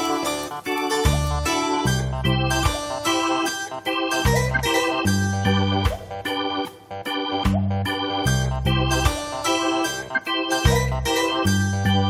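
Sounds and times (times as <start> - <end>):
bright keyboard tune with beat: 0.0 - 12.0.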